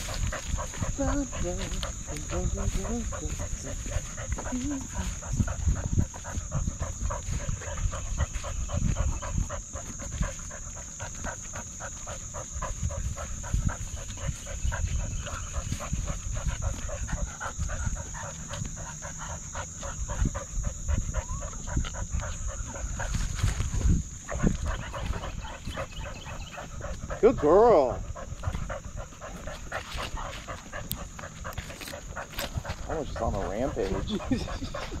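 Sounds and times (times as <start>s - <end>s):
dog panting: 0.0s - 35.0s.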